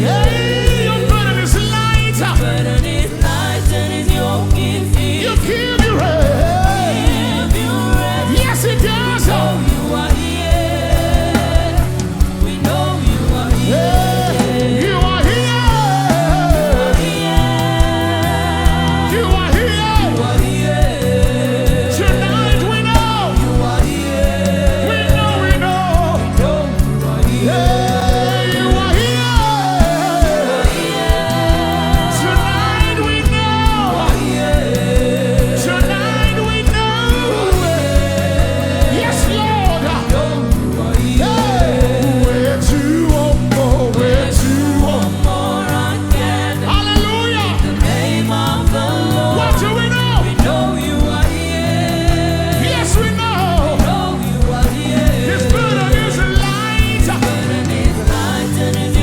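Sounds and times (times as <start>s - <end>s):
voices singing held notes: 0.0s - 59.0s
worship band playing: 0.0s - 59.0s.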